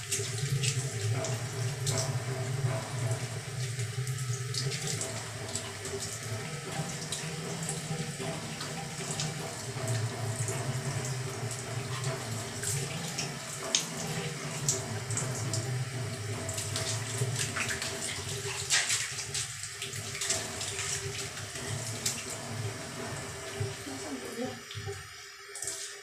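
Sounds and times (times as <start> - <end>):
water splashing: 0.0 - 25.0
shower water running: 0.0 - 26.0.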